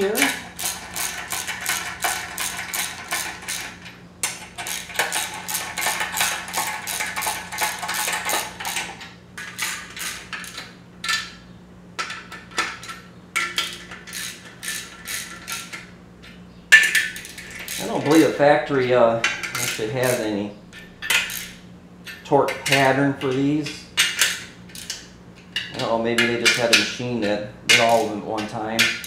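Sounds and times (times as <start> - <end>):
ratchet wrench clicking: 0.0 - 11.2, 13.4 - 15.8, 16.8 - 27.0, 27.7 - 29.0.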